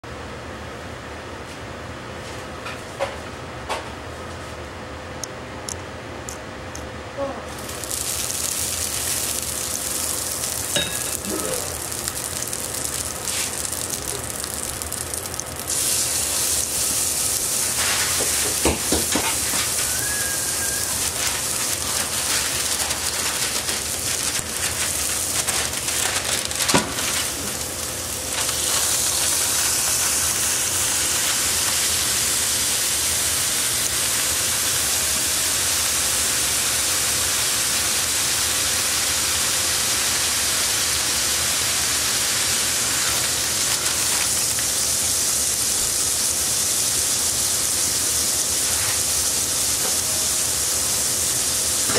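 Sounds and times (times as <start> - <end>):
meat sizzling in oil: 7.5 - 51.9.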